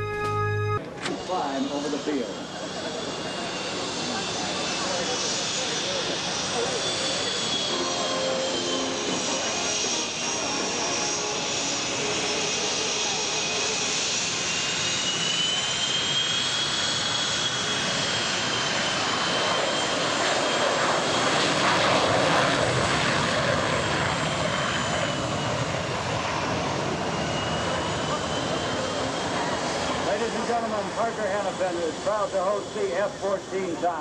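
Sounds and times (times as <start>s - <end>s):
jet engines at full power: 0.0s - 34.0s.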